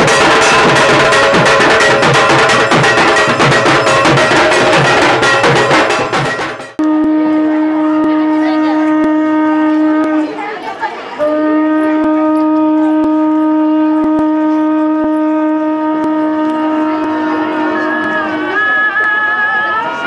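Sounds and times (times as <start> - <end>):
conch shell blown: 0.0 - 6.0, 6.7 - 10.5, 11.2 - 20.0.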